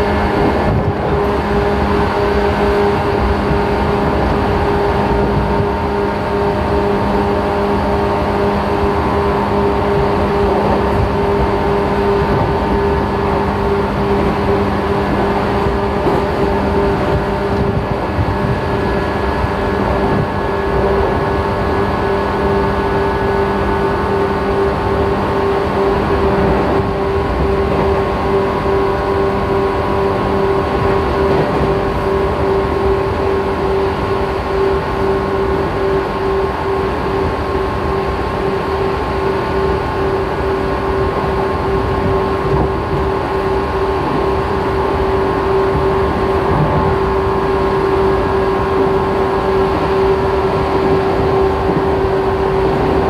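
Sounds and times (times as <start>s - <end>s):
electric train motor hum: 0.0s - 53.0s
train wheels on rail: 0.0s - 53.0s.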